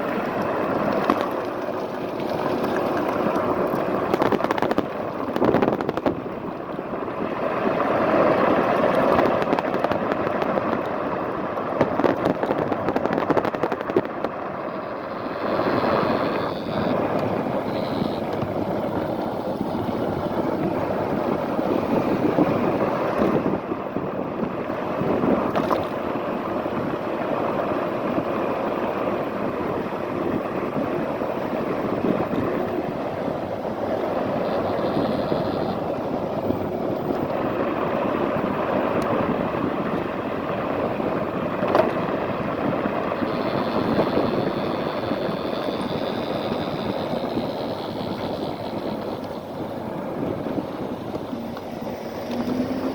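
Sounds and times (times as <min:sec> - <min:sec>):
scooter tyre and road noise: 0:00.0 - 0:52.9
wind buffeting microphone: 0:00.0 - 0:52.9.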